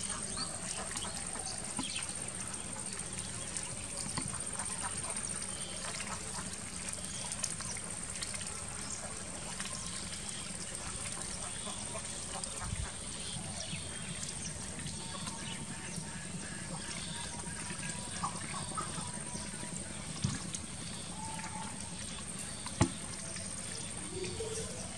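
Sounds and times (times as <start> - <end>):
ducks dabbling in water: 0.0 - 24.9.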